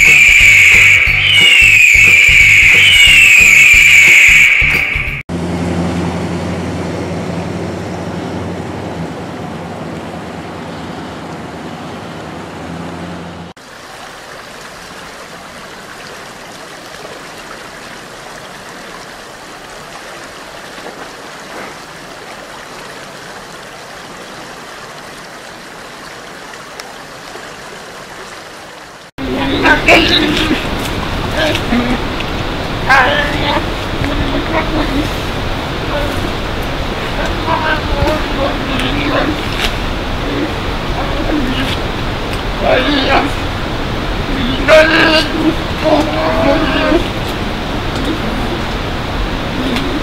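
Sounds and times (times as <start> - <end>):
creek water rushing: 7.5 - 50.0.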